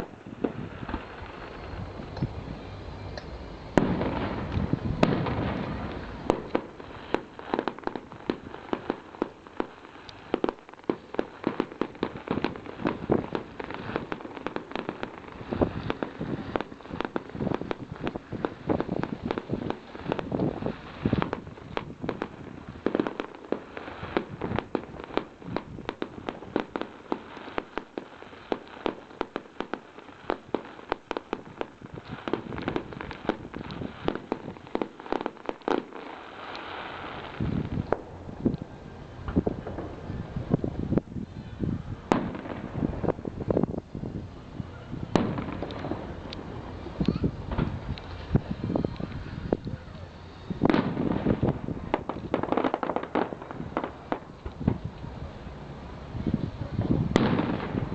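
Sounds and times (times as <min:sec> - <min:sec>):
fireworks bangs and pops: 0:00.0 - 0:57.9.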